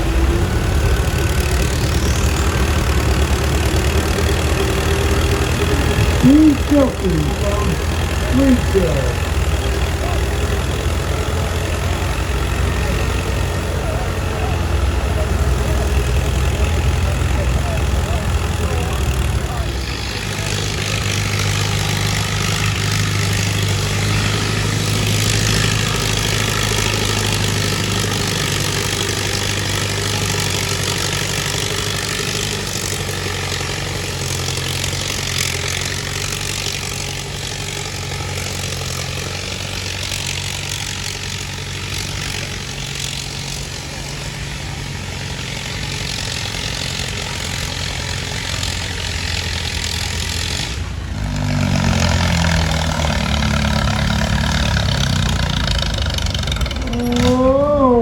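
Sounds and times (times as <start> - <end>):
tractor engine humming: 0.0 - 58.0.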